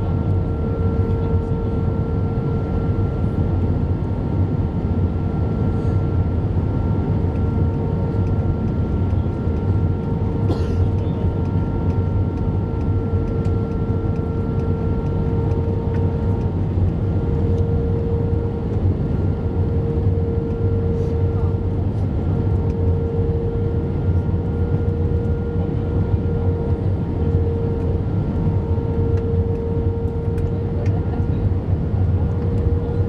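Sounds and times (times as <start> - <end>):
aircraft cabin engine rumble: 0.0 - 33.0
constant multi-tone hum: 0.0 - 33.0.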